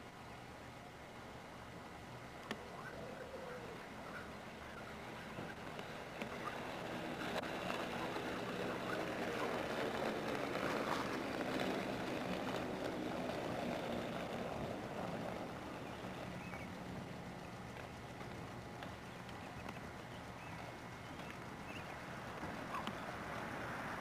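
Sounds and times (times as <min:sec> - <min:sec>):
skate wheels rolling on asphalt: 0:01.3 - 0:24.0.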